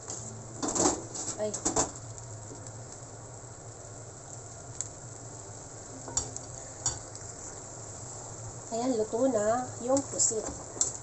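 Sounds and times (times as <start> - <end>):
squid bubbling in frying pan: 0.0 - 11.0.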